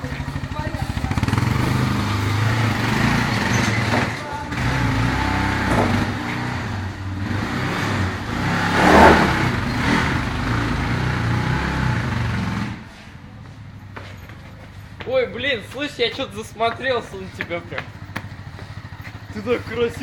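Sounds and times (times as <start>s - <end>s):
motorcycle engine revving: 0.0s - 13.3s, 15.6s - 20.0s.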